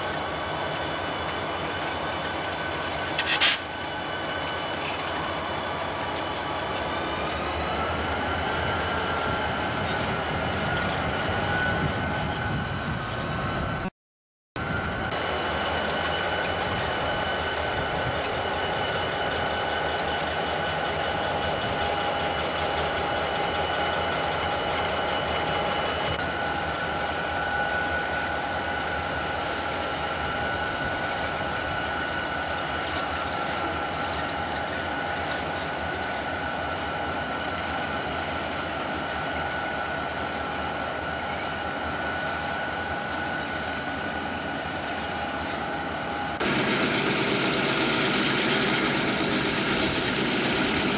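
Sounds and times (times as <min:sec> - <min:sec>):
diesel locomotives rumbling: 0:00.0 - 0:13.9, 0:14.6 - 0:50.9
high-pitched squealing: 0:00.1 - 0:13.9, 0:14.6 - 0:50.9.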